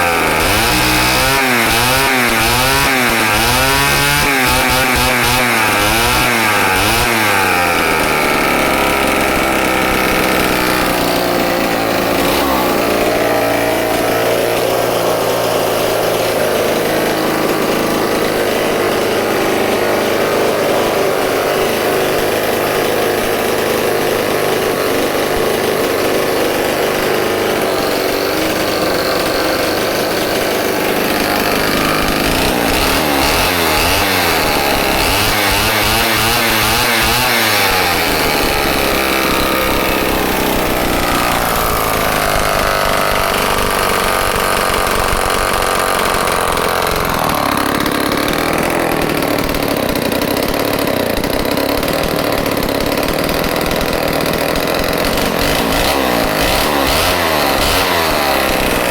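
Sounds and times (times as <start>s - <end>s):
chainsaw running loudly: 0.0s - 58.9s.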